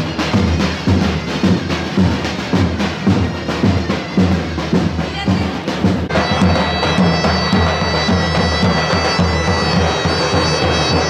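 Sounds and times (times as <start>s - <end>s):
big drum beating: 0.0s - 11.0s
shrill wind instrument: 0.0s - 11.0s.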